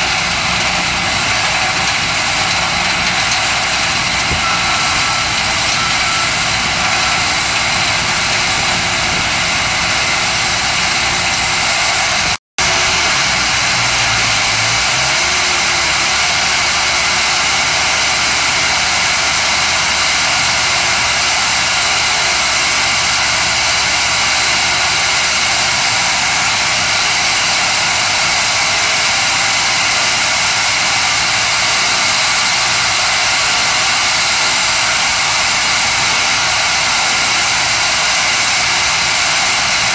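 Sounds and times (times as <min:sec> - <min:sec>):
vibrating soil screener rattling: 0:00.0 - 0:39.9.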